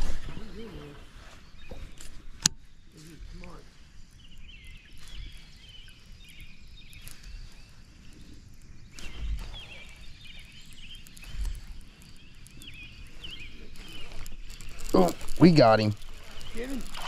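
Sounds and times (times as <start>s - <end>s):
light outdoor hiss: 0.0s - 17.0s
songbirds chirping: 0.0s - 17.0s.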